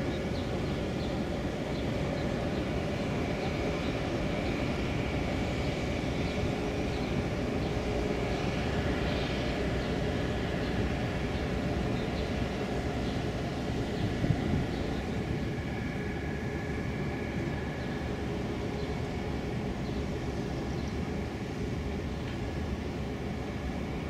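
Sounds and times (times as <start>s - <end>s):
boat diesel engine droning: 0.0s - 24.0s.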